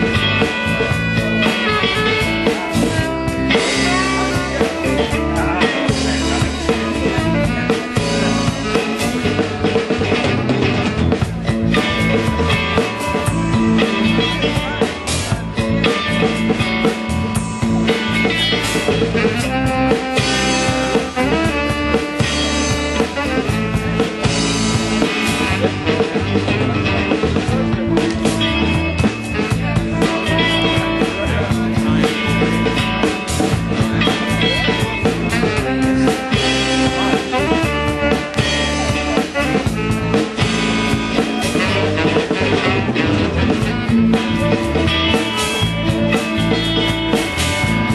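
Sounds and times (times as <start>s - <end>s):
live band playing loud music: 0.0s - 47.9s.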